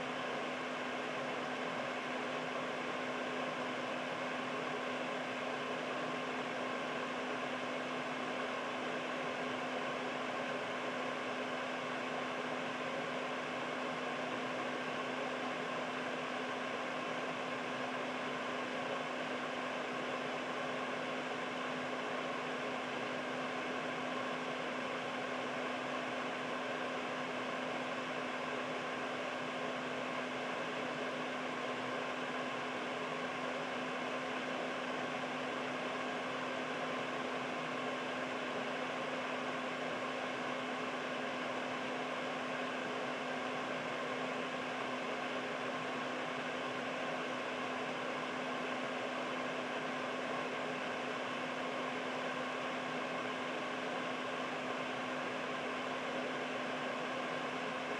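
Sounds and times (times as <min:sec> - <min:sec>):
air purifier fan running: 0:00.0 - 0:57.9.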